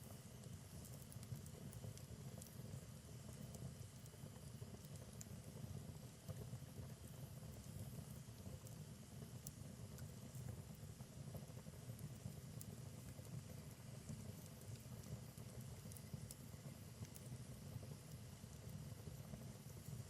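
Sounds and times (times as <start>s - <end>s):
fire crackling and popping: 0.0s - 20.0s
low rumble of flame: 0.0s - 20.0s.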